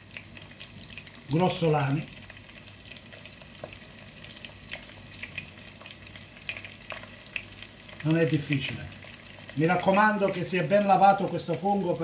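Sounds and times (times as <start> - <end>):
sausage sizzling in a pan: 0.0 - 12.0.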